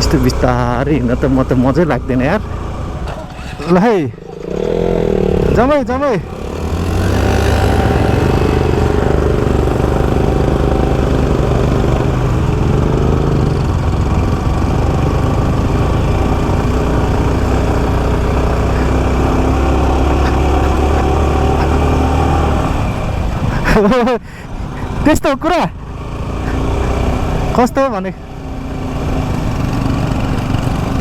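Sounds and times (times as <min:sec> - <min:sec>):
motorcycle engine running: 0:00.0 - 0:31.0
road and wind noise: 0:00.0 - 0:31.0.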